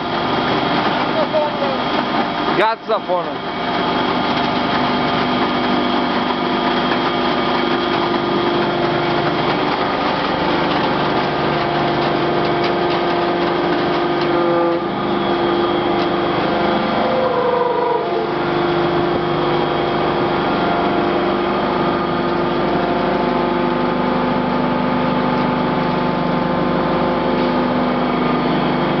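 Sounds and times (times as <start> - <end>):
baler hydraulic hum: 0.0 - 29.0.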